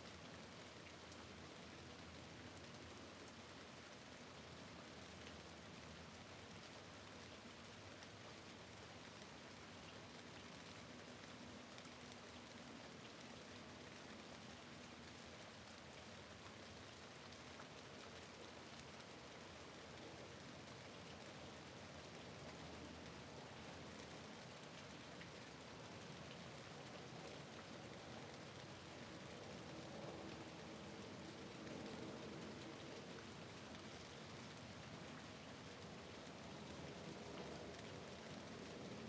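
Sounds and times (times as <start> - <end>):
rain against a window: 0.2 - 39.0.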